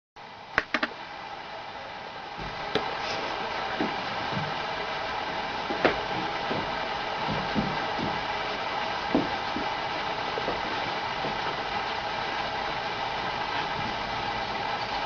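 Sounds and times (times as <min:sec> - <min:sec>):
background hiss and hum: 0:00.2 - 0:15.0.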